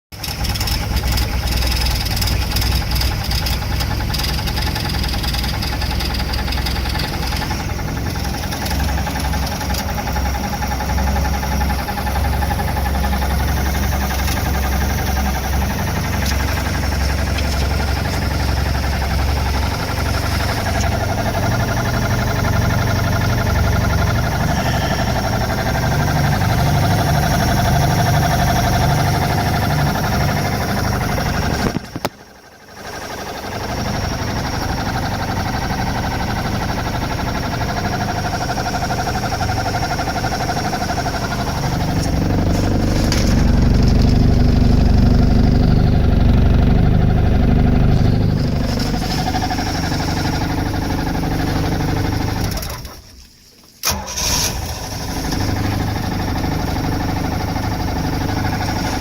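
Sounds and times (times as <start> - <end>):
boat engine running with whine: 0.2 - 59.0.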